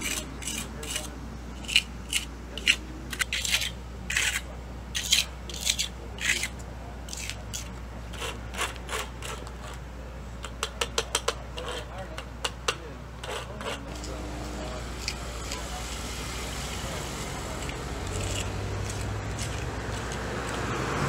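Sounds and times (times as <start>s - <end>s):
metal scraper scraping concrete: 0.0s - 9.8s, 11.1s - 12.2s, 13.2s - 16.1s, 16.8s - 20.6s.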